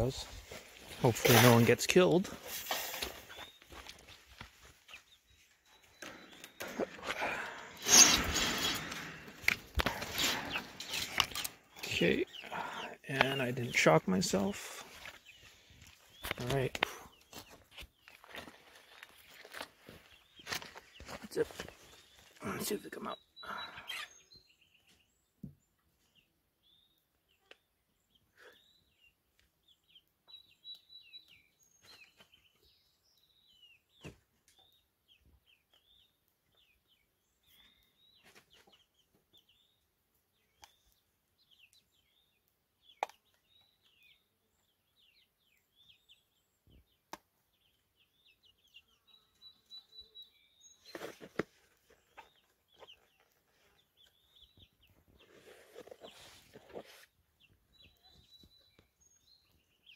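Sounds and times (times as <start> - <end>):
chicks peeping and cheeping: 3.0 - 18.2, 20.1 - 25.1, 25.7 - 59.9.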